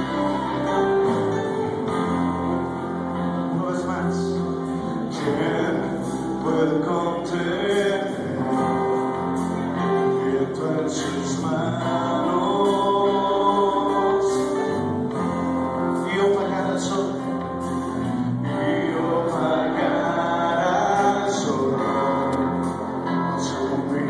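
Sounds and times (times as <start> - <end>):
acoustic guitar and band: 0.0 - 24.0
man singing: 0.0 - 24.0.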